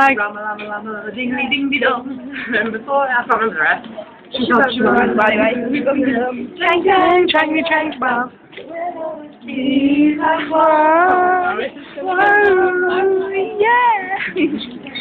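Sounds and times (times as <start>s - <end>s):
girls singing unaccompanied: 0.0s - 2.9s, 4.3s - 15.0s.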